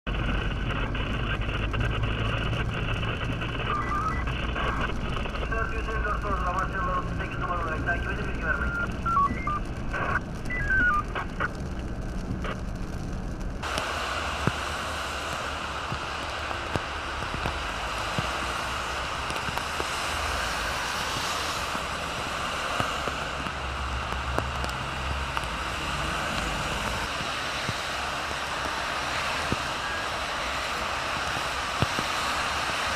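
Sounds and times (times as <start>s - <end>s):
rumble of passing cars: 0.1s - 32.9s
tyres spraying on wet road: 0.1s - 32.9s.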